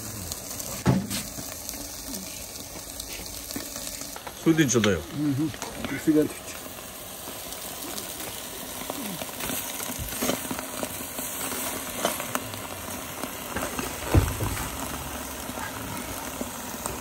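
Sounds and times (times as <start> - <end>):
meat sizzling on hot stones: 0.0 - 17.0.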